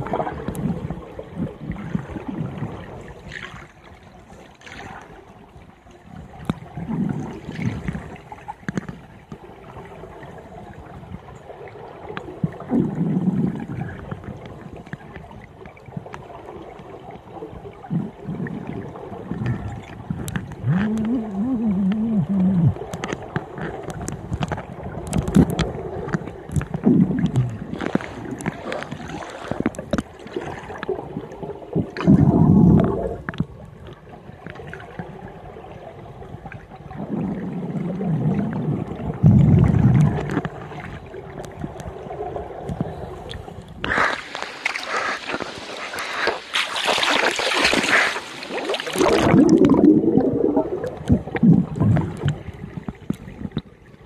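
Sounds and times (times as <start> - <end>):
regulator bubbles gurgling underwater: 0.0 - 54.0.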